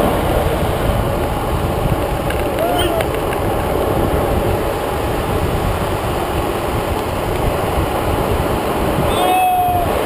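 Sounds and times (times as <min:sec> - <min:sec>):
longboard wheels rolling on asphalt: 0:00.0 - 0:10.0
wind rushing over microphone: 0:00.0 - 0:10.0.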